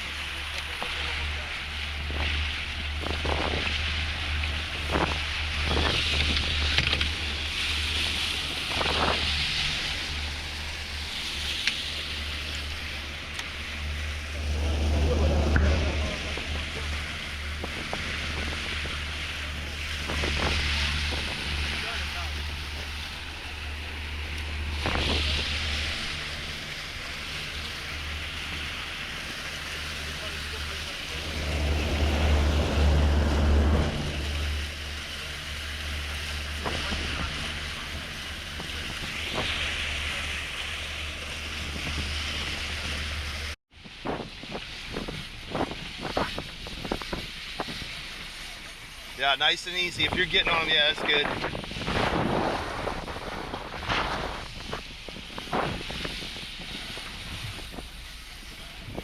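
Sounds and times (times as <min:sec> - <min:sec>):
boat engine drone: 0:00.0 - 0:59.0
water rushing along hull: 0:00.0 - 0:59.0
wind on microphone: 0:01.9 - 0:48.8, 0:49.8 - 0:59.0.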